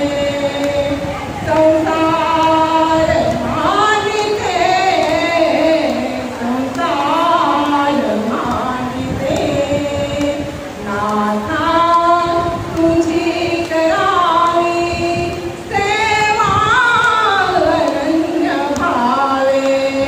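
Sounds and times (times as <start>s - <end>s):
woman singing into microphone: 0.0s - 20.0s.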